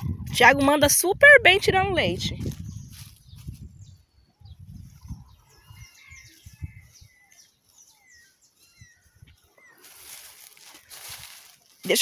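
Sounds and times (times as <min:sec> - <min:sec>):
birds chirping: 0:01.7 - 0:12.0.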